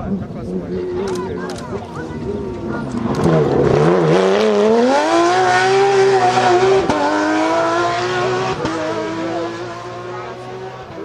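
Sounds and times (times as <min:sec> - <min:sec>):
rally car engine revving: 0:00.0 - 0:11.0
gear changes: 0:00.9 - 0:11.0.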